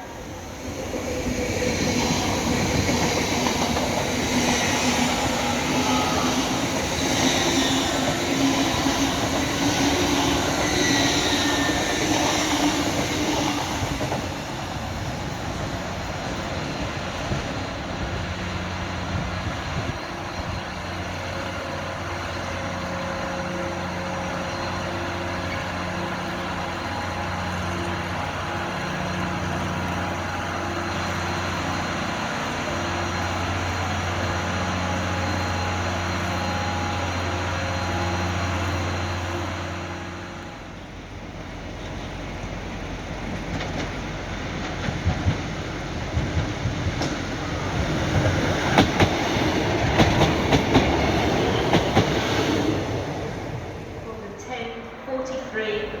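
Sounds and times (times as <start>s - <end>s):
diesel train engine droning: 0.0s - 56.0s.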